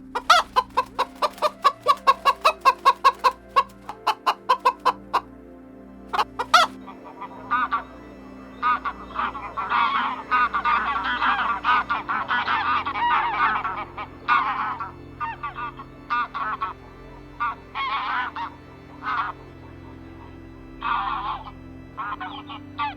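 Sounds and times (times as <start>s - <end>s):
birds honking calls: 0.0s - 5.3s, 6.1s - 22.9s
steady low drone: 0.0s - 22.9s.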